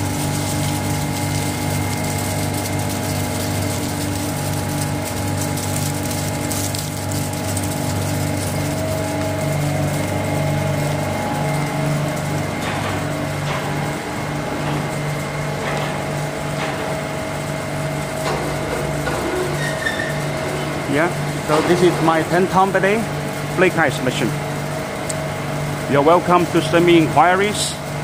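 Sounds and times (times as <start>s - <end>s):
ice machine humming: 0.0s - 28.0s.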